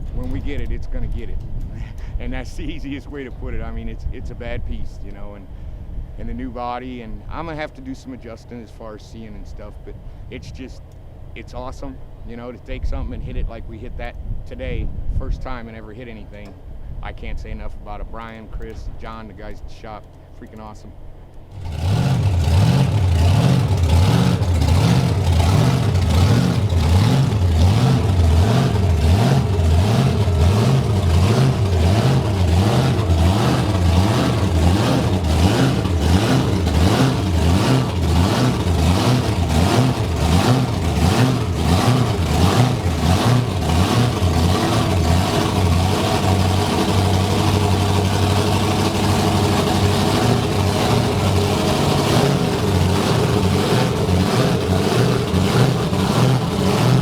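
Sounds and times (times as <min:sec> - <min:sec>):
large vehicle engine running: 0:00.0 - 0:14.8, 0:15.7 - 0:57.0.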